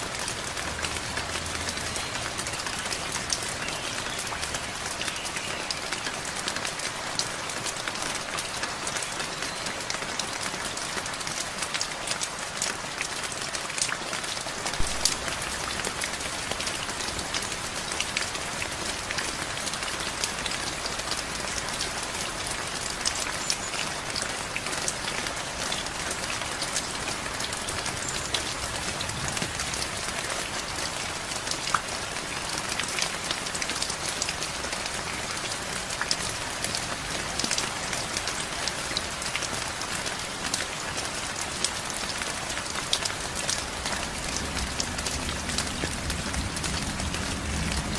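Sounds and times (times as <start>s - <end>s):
rain falling on a surface: 0.0s - 47.9s.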